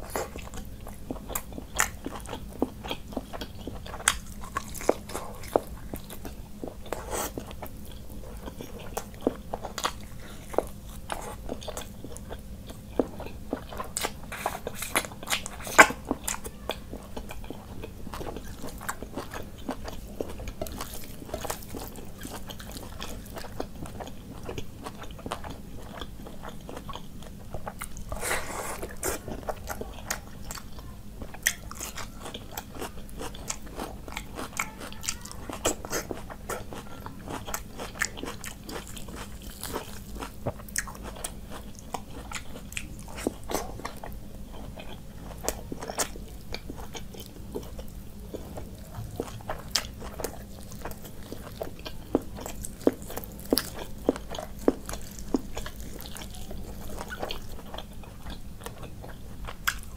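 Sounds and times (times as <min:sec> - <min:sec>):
food crunching: 0:00.0 - 0:59.9
person chewing food: 0:00.0 - 0:59.9.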